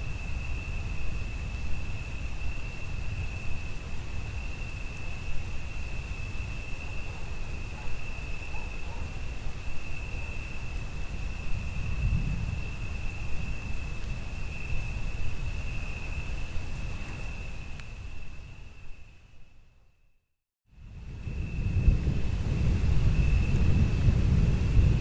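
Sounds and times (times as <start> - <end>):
crickets trilling: 0.0 - 20.1, 20.8 - 25.0.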